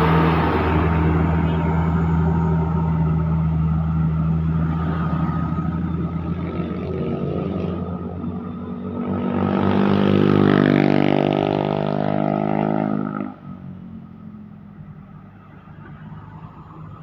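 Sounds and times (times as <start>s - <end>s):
heavy vehicle engine drone: 0.0s - 17.0s
traffic rumble: 0.0s - 17.0s.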